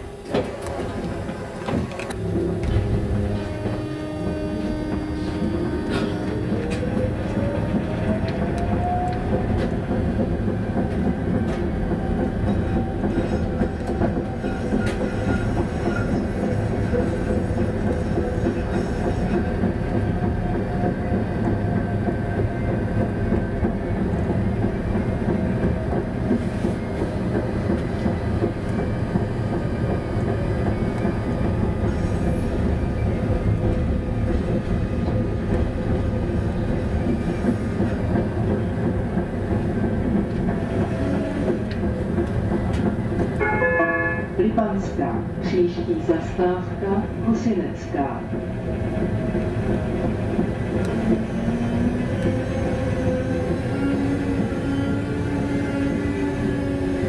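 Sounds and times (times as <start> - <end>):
tram wheels rumbling on rails: 0.0 - 57.0.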